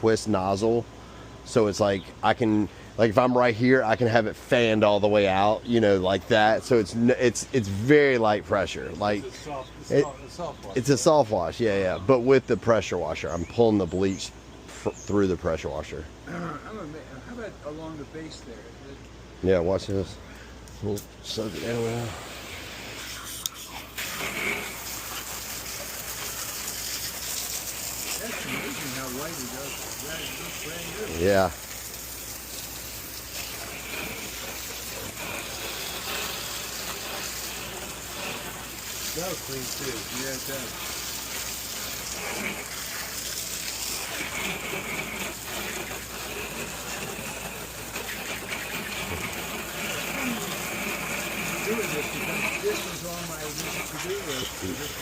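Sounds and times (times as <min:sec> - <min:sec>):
steady spray hiss: 0:00.0 - 0:15.8, 0:19.6 - 0:55.0.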